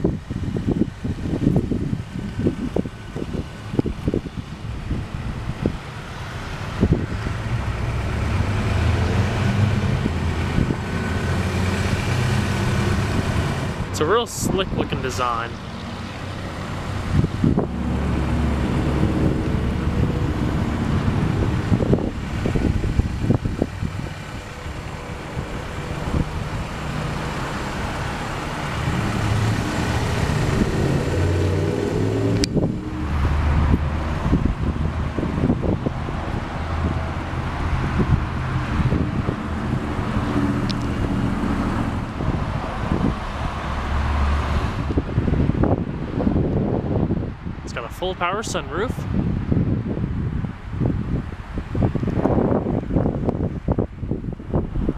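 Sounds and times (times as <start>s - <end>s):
vehicle engine rumble: 0.0s - 54.9s
wind on microphone: 0.0s - 54.9s.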